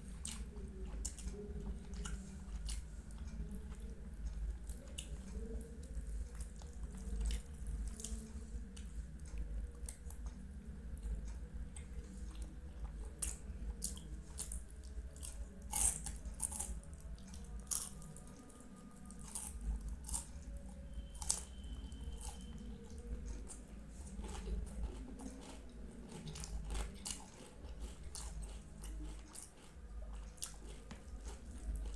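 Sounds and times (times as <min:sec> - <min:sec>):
chewing with wet mouth smacks: 0:00.0 - 0:31.9.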